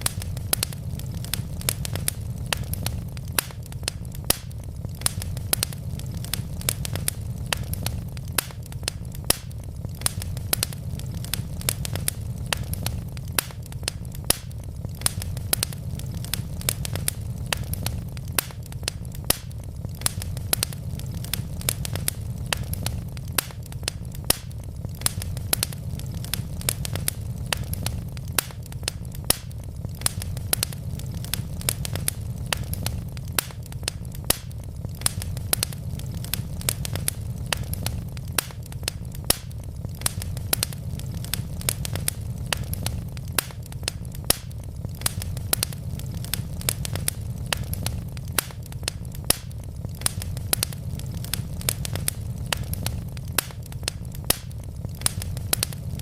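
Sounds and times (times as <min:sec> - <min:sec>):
low rumble of burning logs: 0:00.0 - 0:56.0
wood fire crackling: 0:00.0 - 0:56.0.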